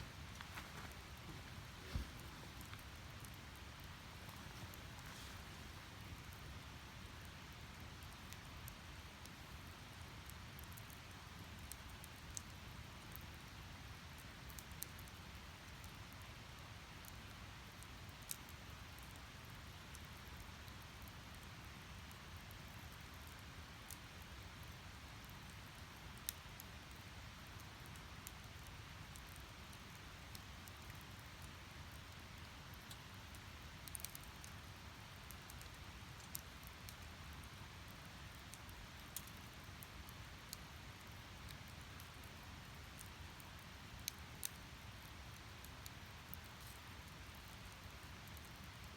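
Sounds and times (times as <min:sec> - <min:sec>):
faint steady hiss: 0:00.0 - 0:48.9
firewood crackling and popping: 0:00.0 - 0:48.9.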